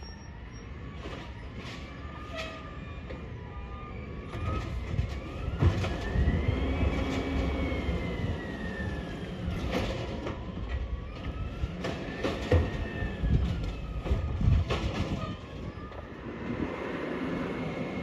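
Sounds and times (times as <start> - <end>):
hydraulic whine: 0.0 - 18.0.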